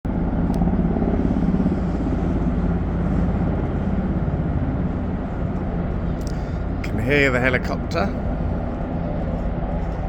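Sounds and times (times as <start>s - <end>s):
engine rumble: 0.1s - 10.0s
helicopter rotor beating: 0.1s - 10.0s.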